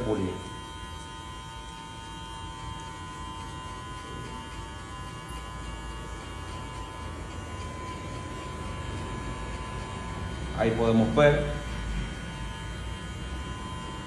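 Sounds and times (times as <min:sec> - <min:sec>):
electric hair clipper humming: 0:00.0 - 0:14.0.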